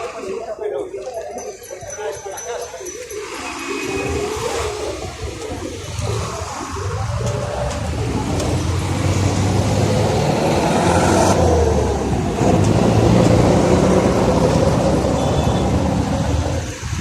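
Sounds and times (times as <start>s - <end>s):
traffic engine rumble: 0.0s - 17.0s.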